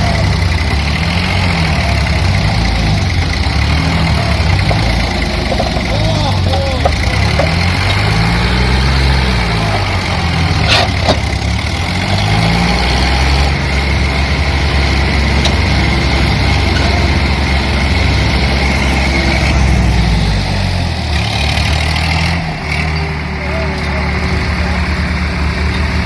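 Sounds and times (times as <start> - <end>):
diesel tractor engine revving: 0.0 - 26.0.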